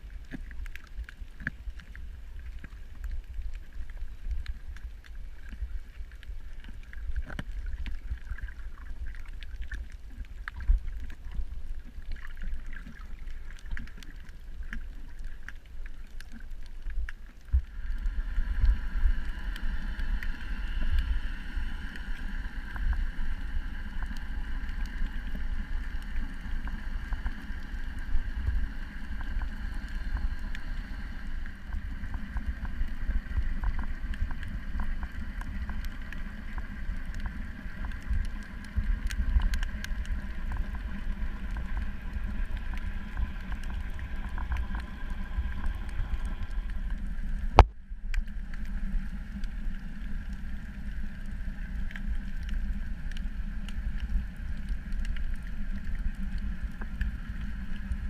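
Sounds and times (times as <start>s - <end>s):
constant hum: 0.0s - 58.0s
crackling clicks: 0.0s - 58.0s
underwater low rumble: 0.0s - 58.0s.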